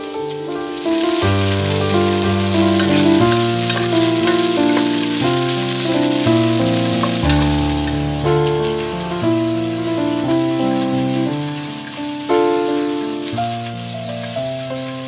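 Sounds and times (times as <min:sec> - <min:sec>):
food sizzling in hot oil: 0:00.2 - 0:15.0.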